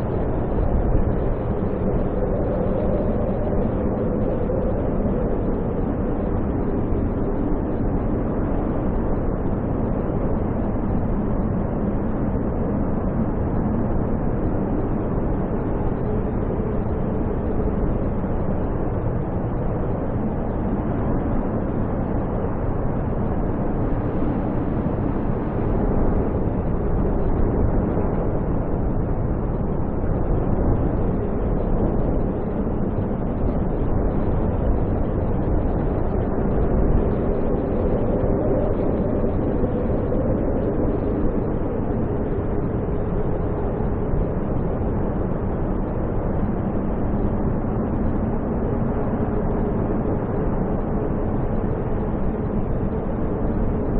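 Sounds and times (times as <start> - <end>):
storm wind roaring: 0.0 - 53.9.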